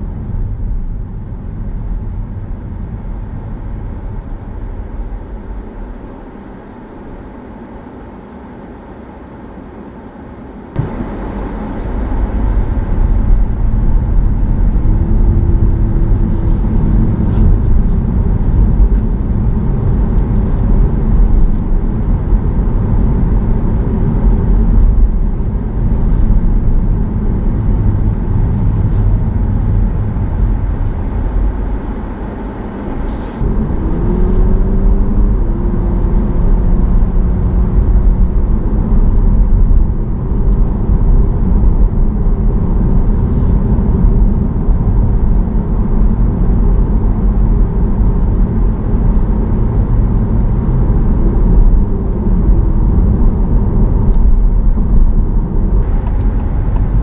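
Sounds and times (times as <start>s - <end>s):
road and drive noise rumble: 0.0s - 57.0s
droning tone: 10.8s - 57.0s.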